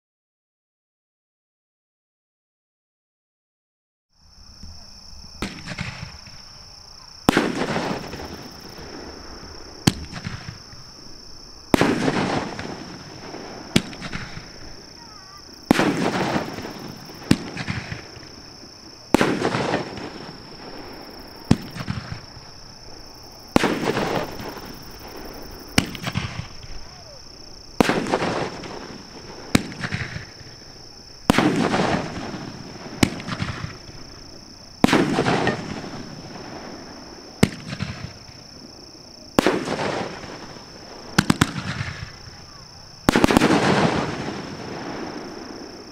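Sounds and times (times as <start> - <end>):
fireworks cracking: 4.6 - 45.9
fireworks crackling: 4.6 - 45.9.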